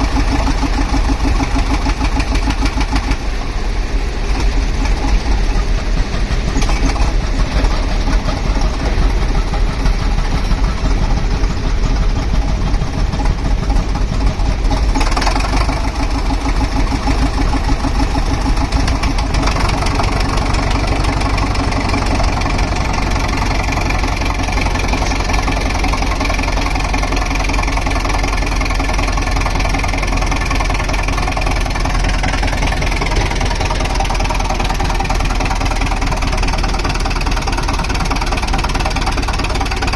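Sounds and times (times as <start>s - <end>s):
compressor engine running: 0.0s - 39.9s.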